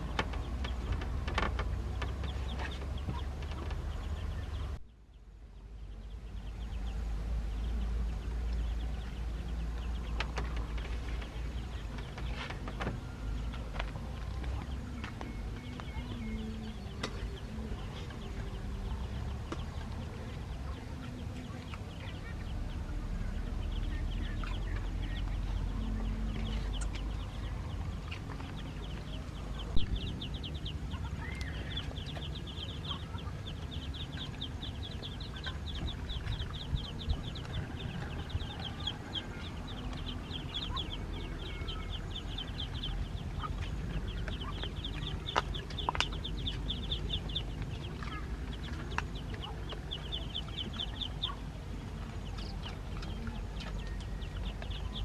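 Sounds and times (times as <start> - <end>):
chickens clucking: 0.0 - 4.8, 7.5 - 55.0
steady low rumble: 0.0 - 55.0.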